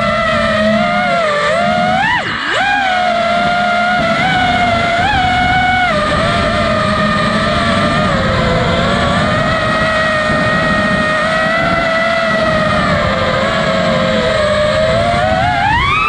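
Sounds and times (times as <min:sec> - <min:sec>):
drone motors whining: 0:00.0 - 0:16.0
rushing airflow: 0:00.0 - 0:16.0.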